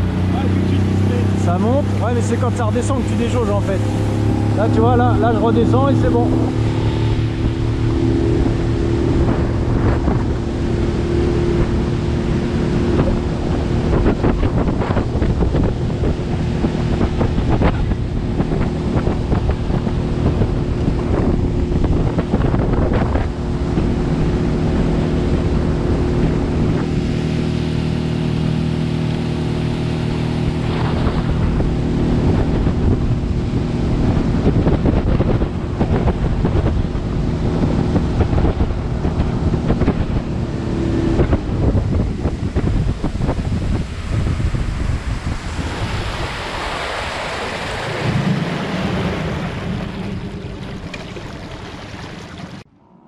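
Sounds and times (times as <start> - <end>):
outboard motor running: 0.0 - 52.7
water rushing along hull: 0.0 - 53.0
wind buffeting microphone: 0.0 - 53.0.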